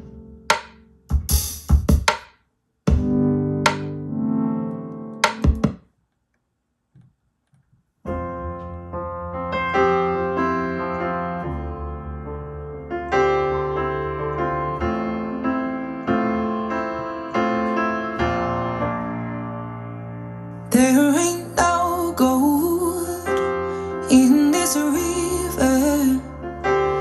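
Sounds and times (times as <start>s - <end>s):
piano chords through loudspeaker: 0.0s - 2.2s, 2.8s - 5.8s, 8.0s - 27.0s.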